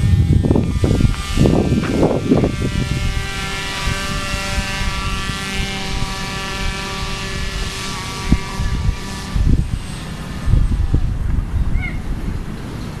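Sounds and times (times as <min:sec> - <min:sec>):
paramotor engine humming: 0:00.0 - 0:11.5
wind rumbling on microphone: 0:00.0 - 0:13.0.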